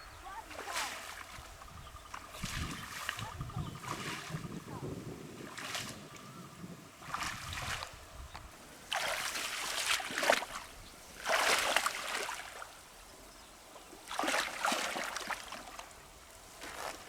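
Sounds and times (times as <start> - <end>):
water splashing and sloshing: 0.2 - 17.0.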